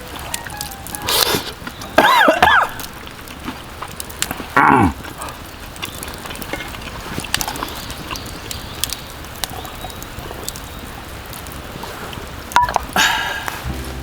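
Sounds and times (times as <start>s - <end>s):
small crackles and ticks: 0.0s - 14.0s.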